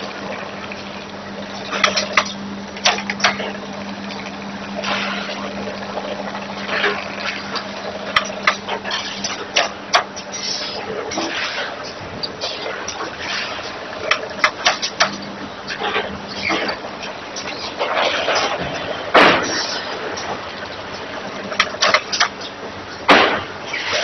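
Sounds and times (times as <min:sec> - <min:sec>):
machine hum: 0:00.0 - 0:24.0.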